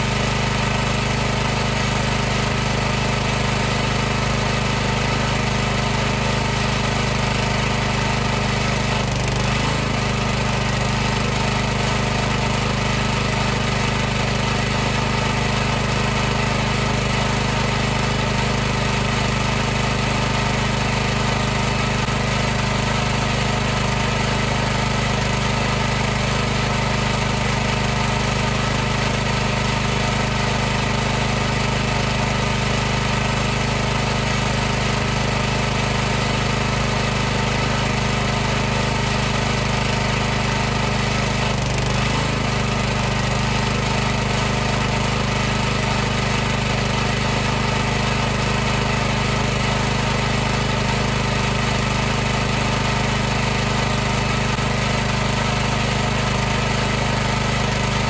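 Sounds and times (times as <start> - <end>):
pressure washer pump running: 0.0 - 58.0.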